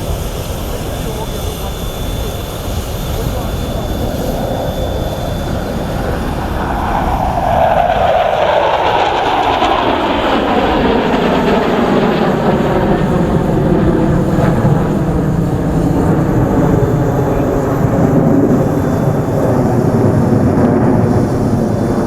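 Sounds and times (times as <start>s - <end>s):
fighter jets passing by: 0.0s - 22.0s.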